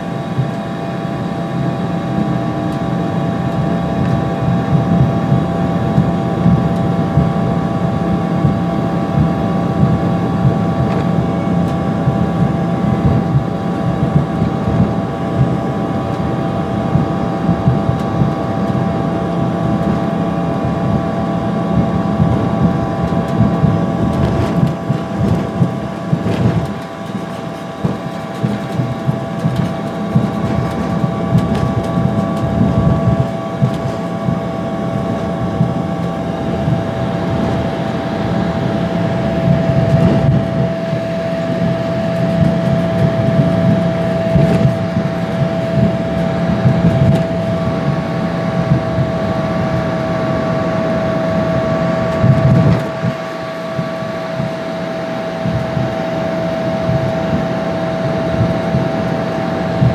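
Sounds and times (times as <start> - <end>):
higher engine whine: 0.0 - 59.9
jet engine whine: 0.0 - 59.9
wheels and airframe rumble: 0.0 - 59.9.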